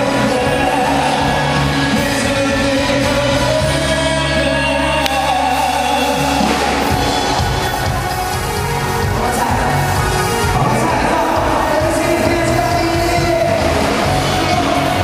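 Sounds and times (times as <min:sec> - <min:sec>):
live pop band playing: 0:00.0 - 0:15.0
person singing: 0:00.0 - 0:15.0.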